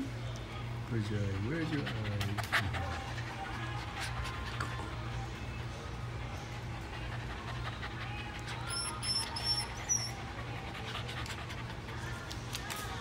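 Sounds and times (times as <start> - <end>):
small dog sounds: 1.4 - 12.9.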